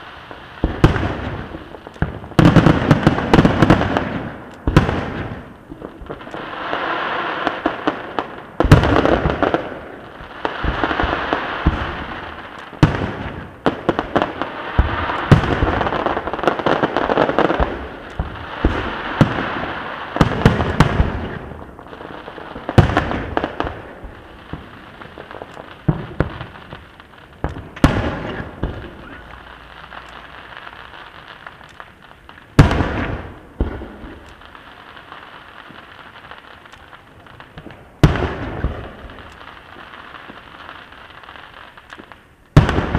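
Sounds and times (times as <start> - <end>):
fireworks bursting with bangs: 0.0 - 42.9
fireworks crackling: 0.0 - 42.9.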